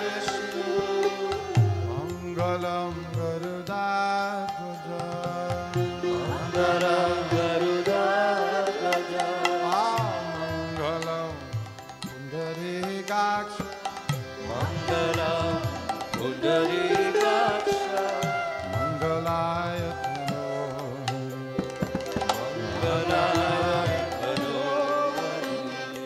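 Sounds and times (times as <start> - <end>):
voices singing a chant: 0.0 - 13.5, 14.3 - 26.0
harmonium chords: 0.0 - 26.0.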